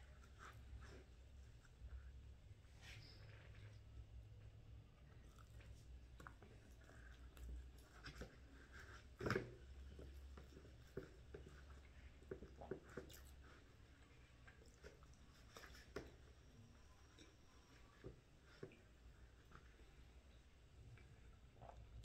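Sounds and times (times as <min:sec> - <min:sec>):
quiet chewing: 0:00.0 - 0:22.0.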